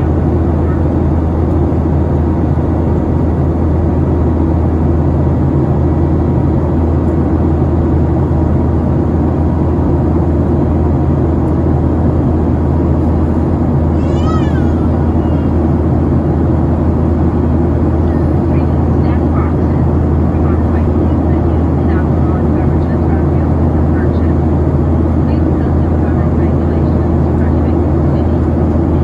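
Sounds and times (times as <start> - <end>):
jet engines droning: 0.0 - 29.0.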